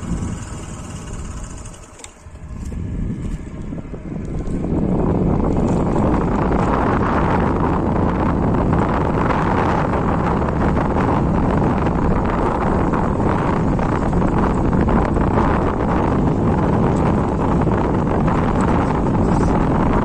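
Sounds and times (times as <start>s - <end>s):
scooter running: 0.0s - 20.0s
wind blasting microphone: 0.0s - 20.0s.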